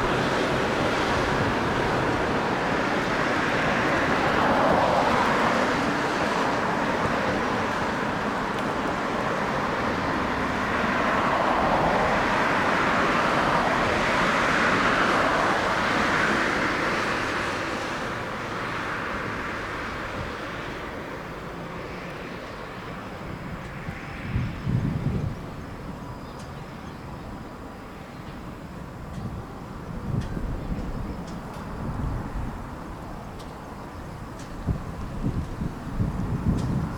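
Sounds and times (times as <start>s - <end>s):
jet aircraft engine rushing: 0.0s - 36.9s.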